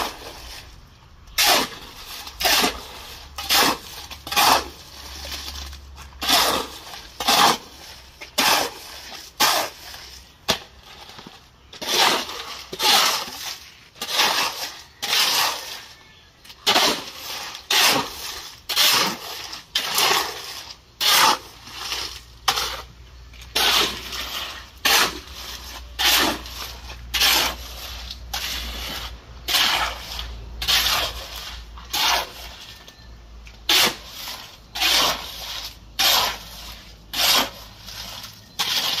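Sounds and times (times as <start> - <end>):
wet concrete mixed by hand: 0.0 - 39.0.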